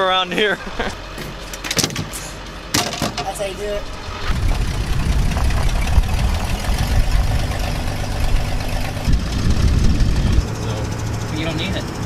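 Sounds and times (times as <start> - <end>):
truck engine running: 0.3 - 12.0.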